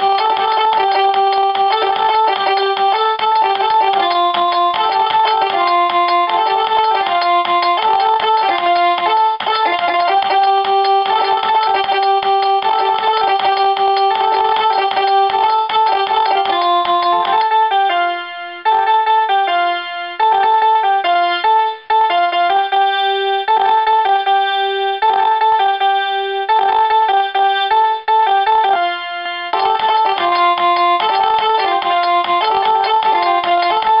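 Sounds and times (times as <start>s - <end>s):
electronic keyboard melody: 0.0s - 34.0s.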